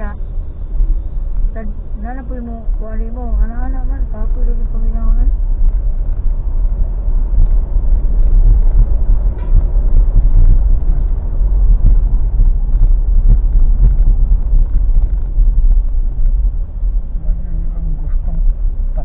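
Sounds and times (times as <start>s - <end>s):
car engine rumble and tyre noise: 0.0s - 19.0s.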